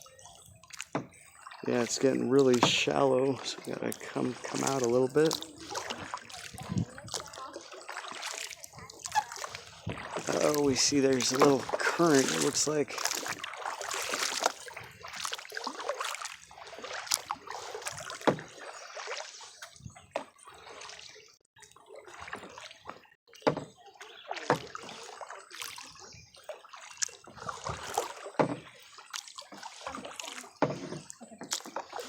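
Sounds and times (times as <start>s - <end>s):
water splashing and dripping: 0.0s - 32.0s.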